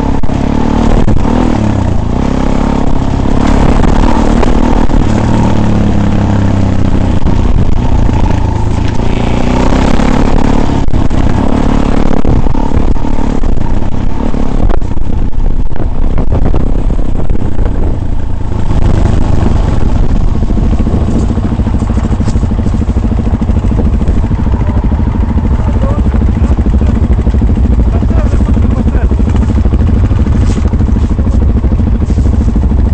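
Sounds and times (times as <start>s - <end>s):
off-road vehicle engine running: 0.0s - 32.9s.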